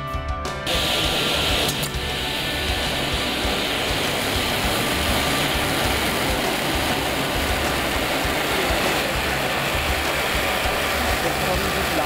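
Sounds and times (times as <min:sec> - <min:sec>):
hissing spray of sparks: 0:00.7 - 0:12.0.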